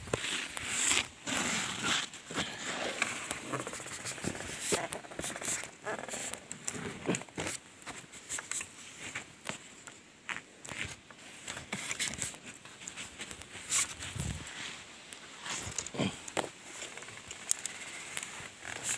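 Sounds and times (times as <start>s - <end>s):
clothing rubbing against camera: 0.0s - 9.7s, 10.3s - 16.1s.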